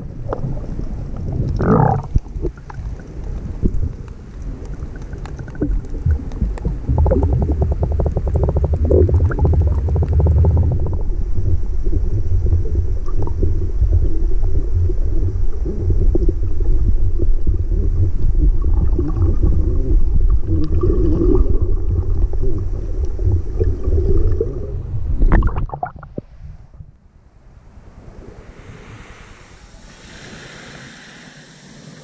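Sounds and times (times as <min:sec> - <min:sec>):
water splashing: 0:00.0 - 0:26.3
muffled underwater rumble: 0:00.0 - 0:27.0.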